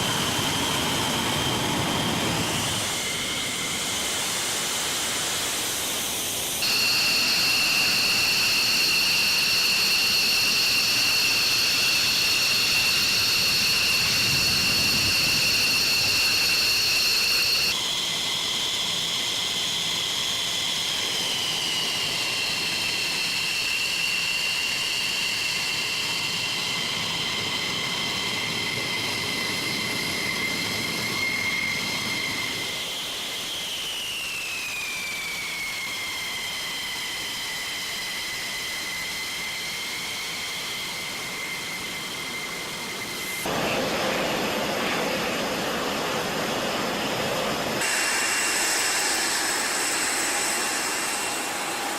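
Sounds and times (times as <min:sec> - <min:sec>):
fighter jet engines whining: 0:00.0 - 0:51.9.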